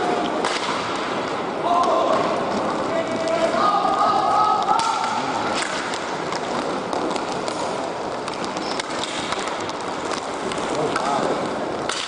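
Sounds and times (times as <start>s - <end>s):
hockey sticks and puck clicking: 0.0s - 12.0s
skates scraping on ice: 0.0s - 12.0s.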